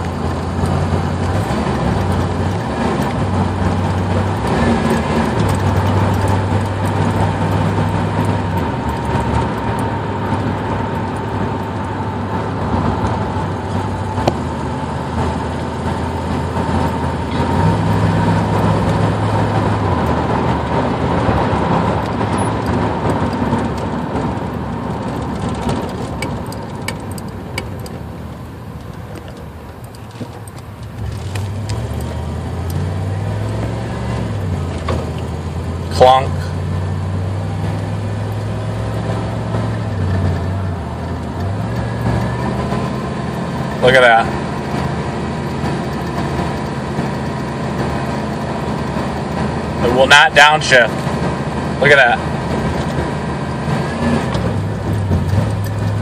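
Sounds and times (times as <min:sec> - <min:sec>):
truck engine changing pitch: 0:00.0 - 0:56.0.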